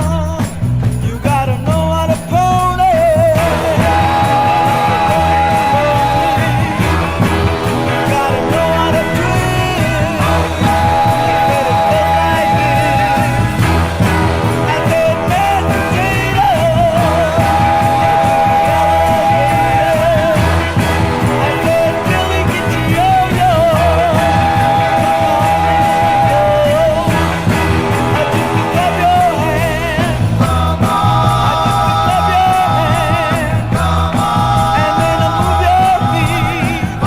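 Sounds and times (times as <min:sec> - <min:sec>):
soul record with full band: 0:00.0 - 0:37.0.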